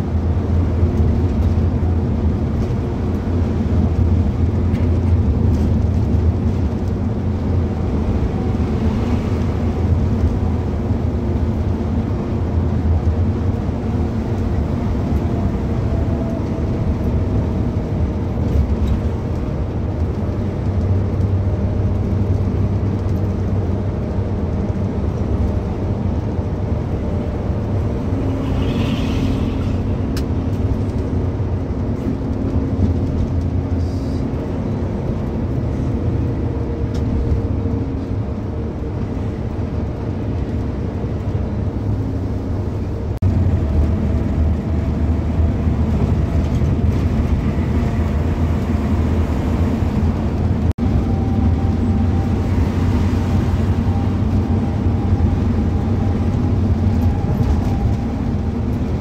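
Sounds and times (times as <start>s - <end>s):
vehicle cabin engine and road noise: 0.0s - 59.0s.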